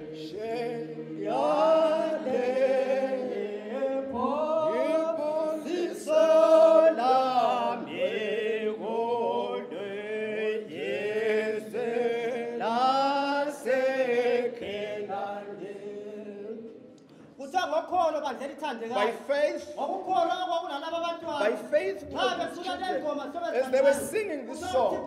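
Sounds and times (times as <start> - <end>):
man leading a cappella hymn: 0.0 - 16.6, 17.4 - 25.0.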